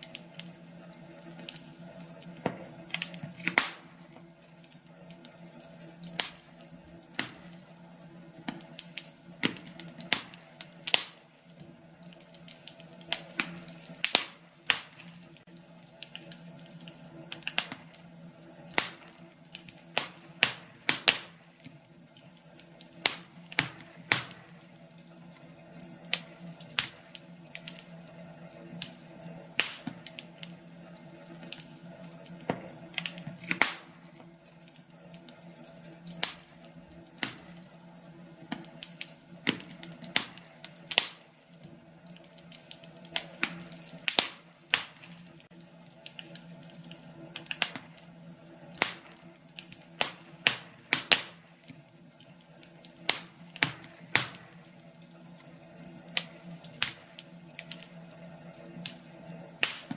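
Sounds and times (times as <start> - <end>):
low rushing of fire: 0.0 - 59.9
wood fire crackling and popping: 0.0 - 59.9.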